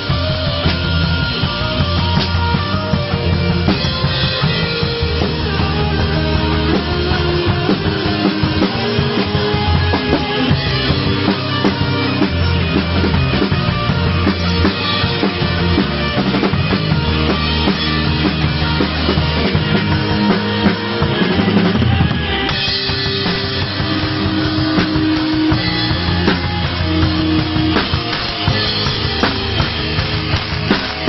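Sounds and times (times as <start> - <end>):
low bass notes: 0.0 - 31.0
rock music with drums: 0.0 - 31.0.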